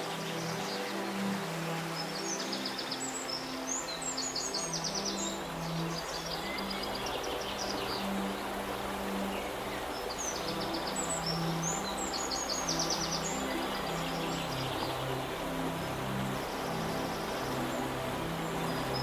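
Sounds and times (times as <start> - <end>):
river water flowing: 0.0 - 19.0
soft slow music: 0.0 - 19.0
songbirds trilling: 0.0 - 19.0.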